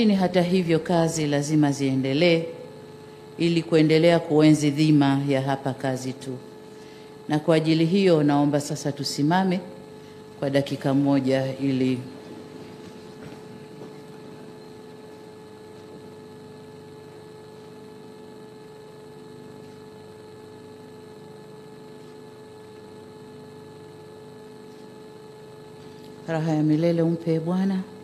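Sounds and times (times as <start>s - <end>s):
electrical hum with hiss: 0.0s - 28.0s.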